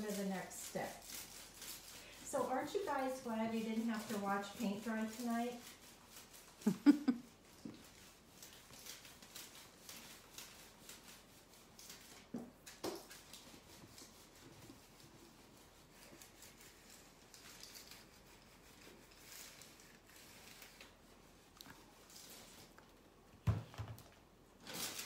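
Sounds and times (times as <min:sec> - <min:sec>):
iron scraping over tissue paper: 0:00.0 - 0:22.8, 0:24.6 - 0:25.0.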